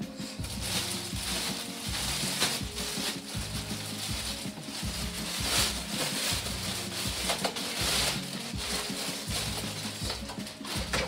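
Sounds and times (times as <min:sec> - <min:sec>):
music playing: 0:00.0 - 0:11.0
plastic bag crinkling: 0:00.0 - 0:11.0.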